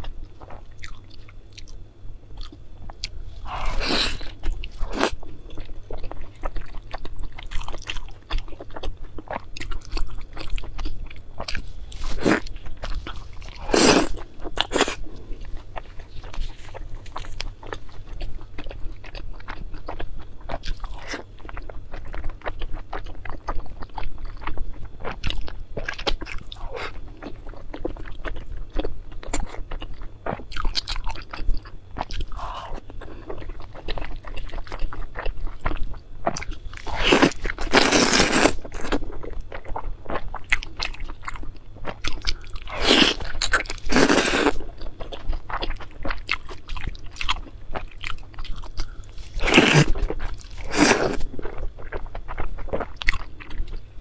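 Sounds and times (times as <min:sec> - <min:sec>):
person chewing wetly: 0:00.0 - 0:01.8, 0:02.4 - 0:53.9.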